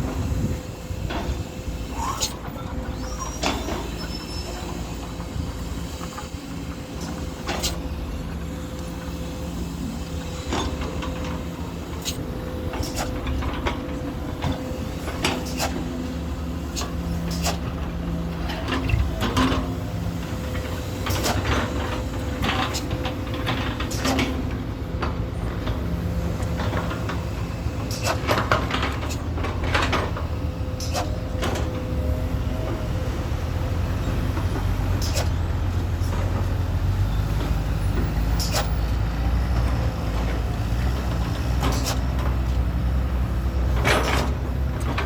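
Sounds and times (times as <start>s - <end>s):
truck engine droning: 0.0s - 45.0s.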